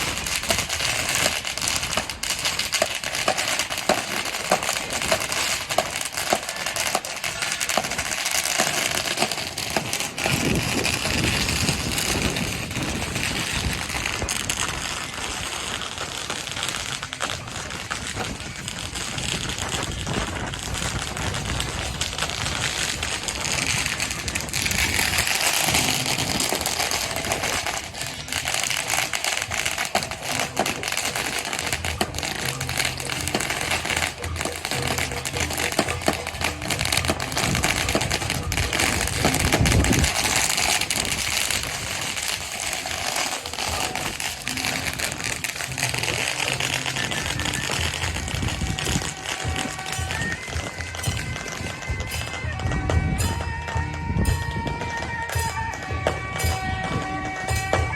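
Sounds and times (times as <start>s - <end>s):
procession music: 0.0s - 17.2s, 19.9s - 57.9s
firecrackers crackling: 0.0s - 57.9s.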